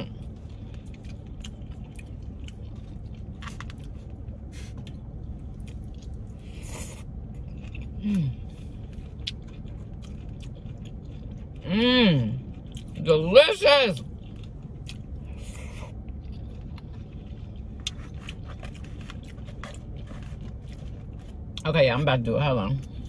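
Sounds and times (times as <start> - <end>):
person chewing food: 0.0 - 13.0, 14.0 - 21.6
low hum: 0.0 - 23.0.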